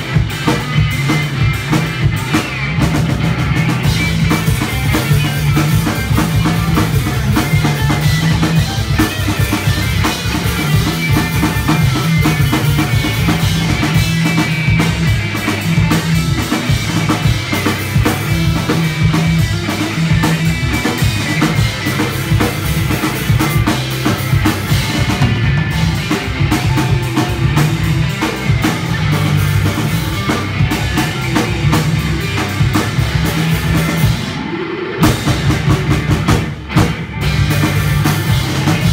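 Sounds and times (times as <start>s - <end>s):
distorted electric guitar: 0.0s - 38.9s
drum kit: 0.0s - 38.9s
electric bass: 0.0s - 38.9s.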